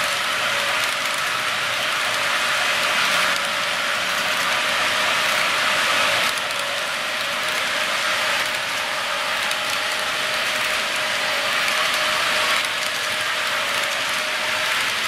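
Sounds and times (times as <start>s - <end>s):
model train wheels clicking on track: 0.0s - 15.0s
thin steady whine: 0.0s - 15.0s.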